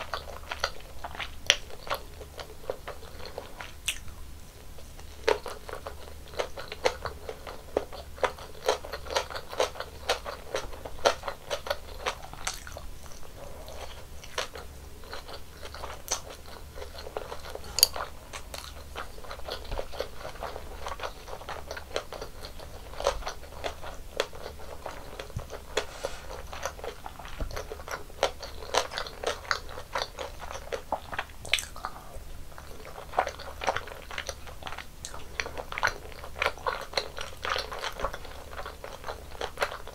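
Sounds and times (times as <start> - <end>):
close-miked chewing and crunching: 0.0 - 39.9.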